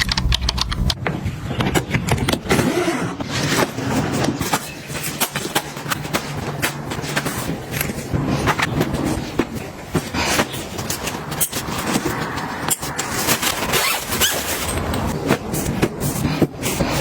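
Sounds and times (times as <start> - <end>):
packaging rustling: 3.2 - 17.0
groceries clicking and tapping: 3.4 - 17.0.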